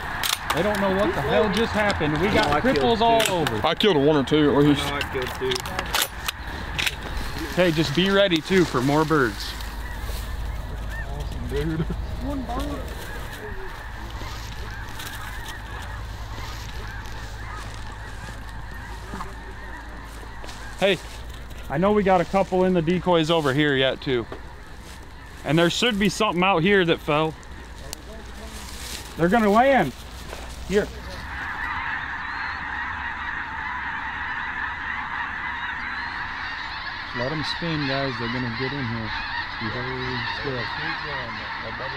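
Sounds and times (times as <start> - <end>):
flock of geese calling: 0.0 - 41.9.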